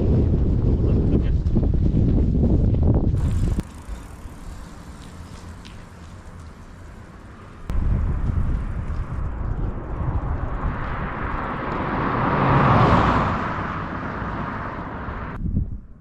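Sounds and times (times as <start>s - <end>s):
wind rushing over microphone: 0.0s - 5.0s, 7.7s - 16.0s
road rumble: 0.0s - 16.0s.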